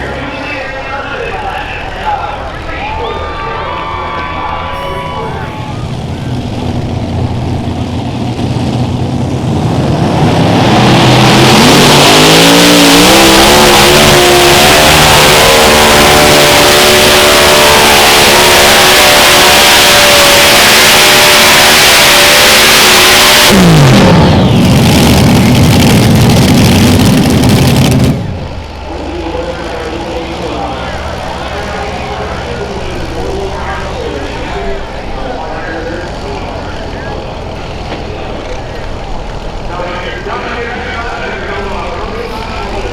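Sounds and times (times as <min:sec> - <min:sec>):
pulling tractor engines revving: 0:00.0 - 0:42.9.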